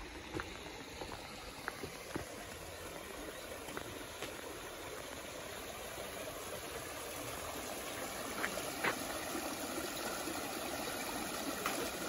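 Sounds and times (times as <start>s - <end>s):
stream running among rocks: 0.0s - 12.0s.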